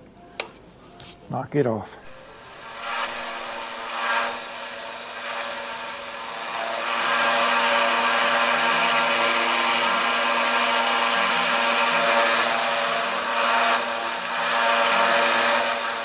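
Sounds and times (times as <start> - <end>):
sanding wheel grinding: 2.1 - 16.0.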